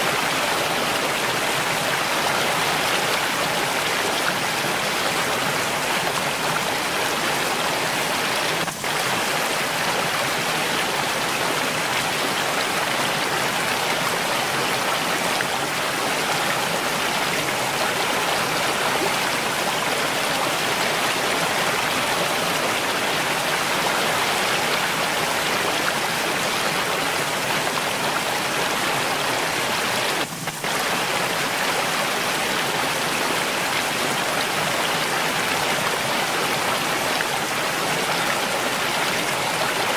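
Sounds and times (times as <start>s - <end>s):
mountain stream flowing: 0.0s - 39.9s.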